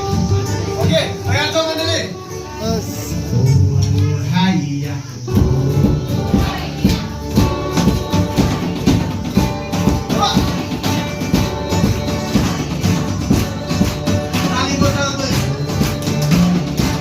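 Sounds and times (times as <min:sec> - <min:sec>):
worship music with steady beat: 0:00.0 - 0:17.0.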